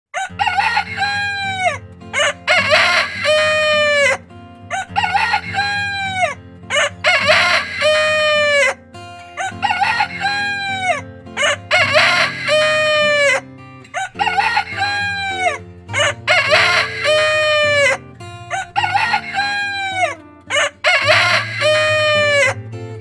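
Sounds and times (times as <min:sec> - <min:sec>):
roosters crowing: 0:00.2 - 0:08.7, 0:09.4 - 0:13.4, 0:14.0 - 0:22.6.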